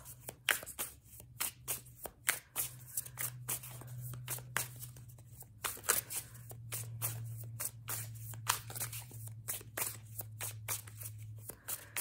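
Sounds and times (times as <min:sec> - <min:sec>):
cards being shuffled: 0:00.0 - 0:12.0
low steady hum: 0:00.0 - 0:12.0.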